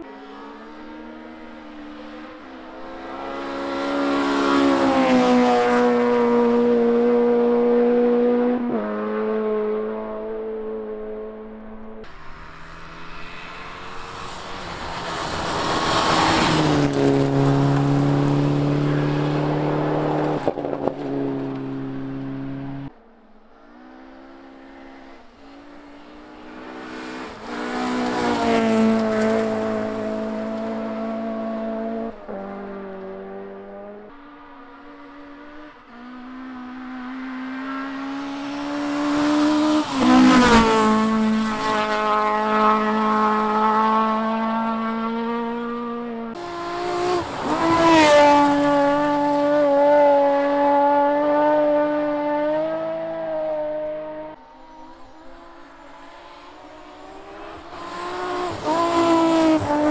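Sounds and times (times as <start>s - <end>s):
rally car engine revving: 0.0s - 22.9s, 23.6s - 59.9s.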